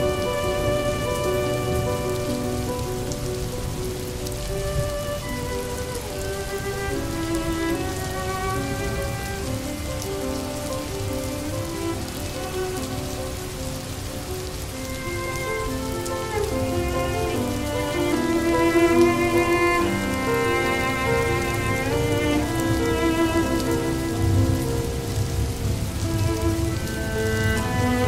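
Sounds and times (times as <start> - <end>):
soft instrumental melody: 0.0 - 28.0
steady rain: 0.0 - 28.0.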